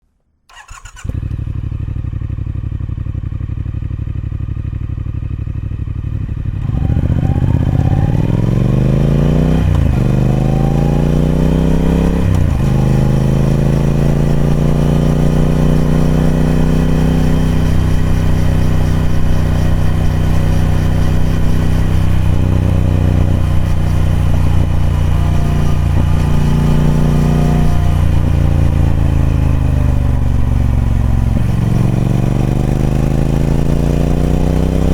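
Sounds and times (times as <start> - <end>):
motorcycle engine revving: 0.5 - 34.9.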